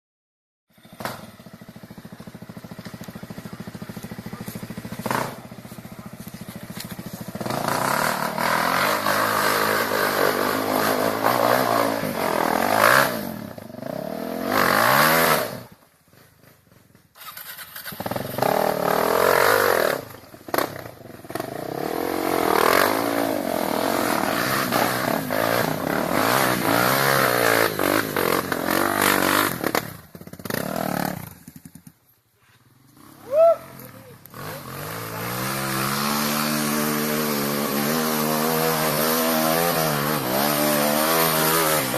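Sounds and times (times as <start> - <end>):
motorcycle engine revving: 0.7 - 41.9.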